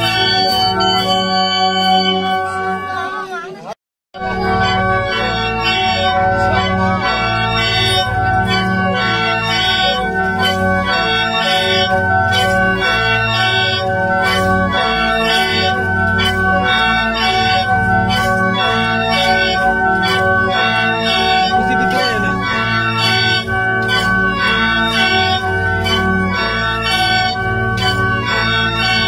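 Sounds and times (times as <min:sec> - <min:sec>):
free-reed mouth organs playing chords: 0:00.0 - 0:03.0, 0:04.2 - 0:29.0.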